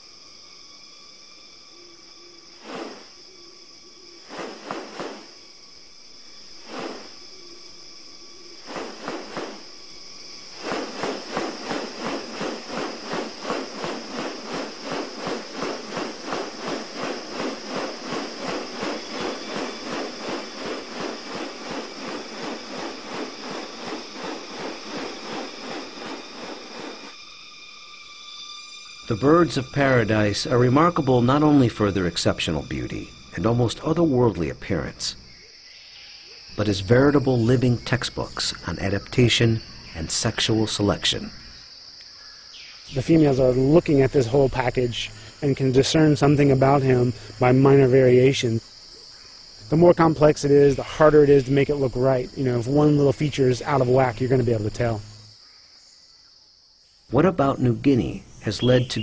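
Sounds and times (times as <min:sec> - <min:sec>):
insects humming: 0:00.0 - 0:59.0.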